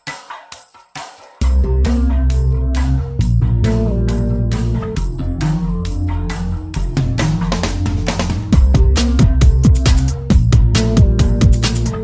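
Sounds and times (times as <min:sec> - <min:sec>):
electronic music: 0:00.0 - 0:12.0
steady drum beat: 0:00.0 - 0:12.0
sliding heavy bass notes: 0:01.4 - 0:12.0.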